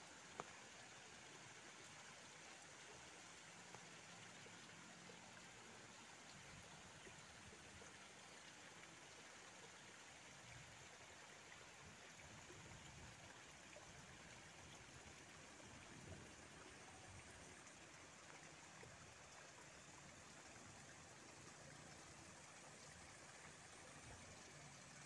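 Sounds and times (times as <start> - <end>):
faint outdoor hiss: 0.0 - 25.0.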